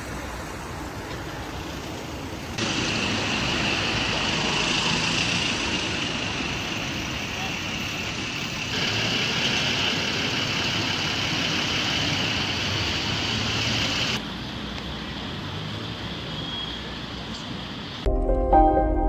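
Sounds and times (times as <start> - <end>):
traffic noise: 0.0 - 18.1.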